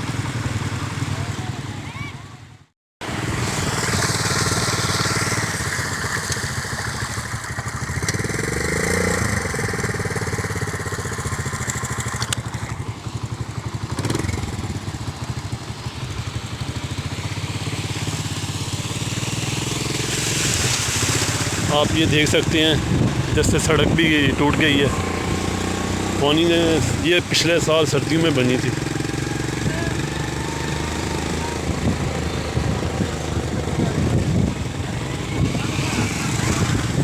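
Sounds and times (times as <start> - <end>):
small motorcycle engine running: 0.0 - 37.0.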